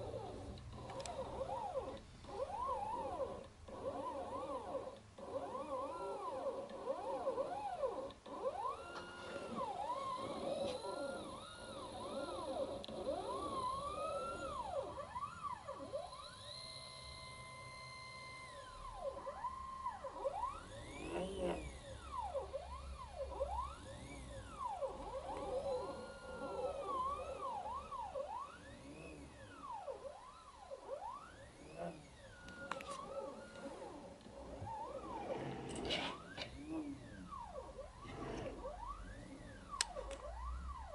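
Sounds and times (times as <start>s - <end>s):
stepper motors whining: 0.0s - 40.9s.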